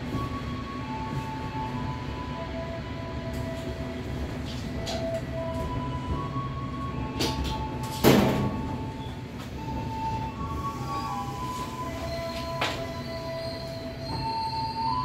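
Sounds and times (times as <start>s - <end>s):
train rumbling over tracks: 0.0s - 15.0s.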